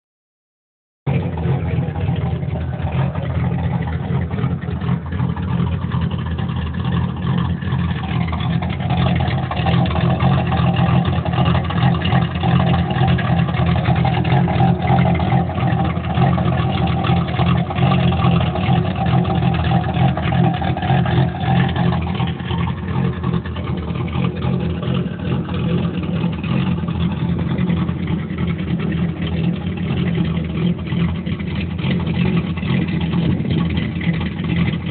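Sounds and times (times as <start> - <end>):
car engine idling: 1.1 - 34.9.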